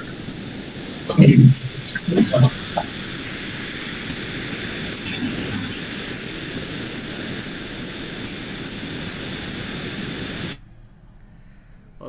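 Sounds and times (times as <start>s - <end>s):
rushing hiss: 0.0s - 12.0s.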